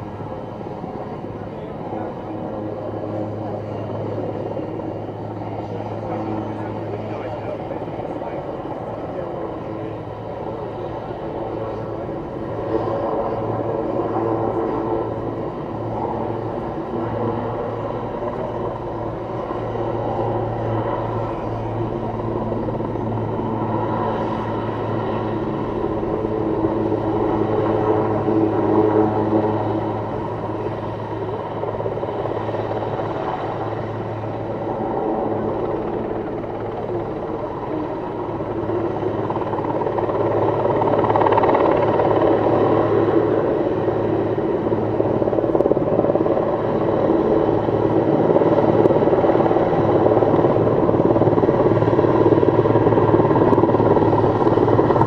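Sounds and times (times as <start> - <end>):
helicopter rotor and engines: 0.0 - 55.0.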